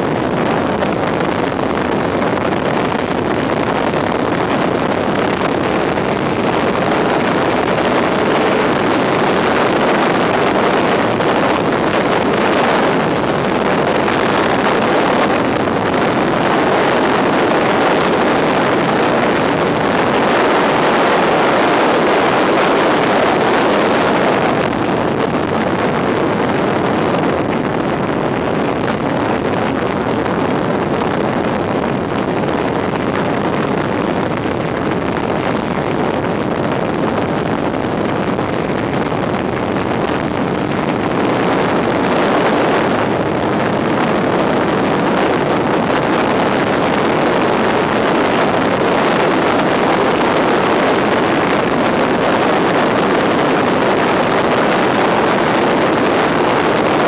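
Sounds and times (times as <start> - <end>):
wind rushing: 0.0 - 57.0.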